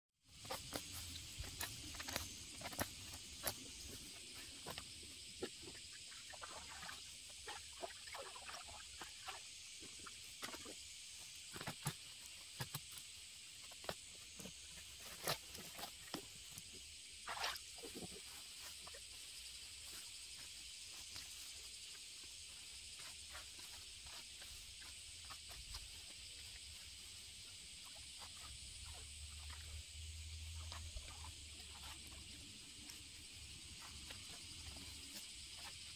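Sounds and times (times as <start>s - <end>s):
grass rustling: 0.2s - 35.9s.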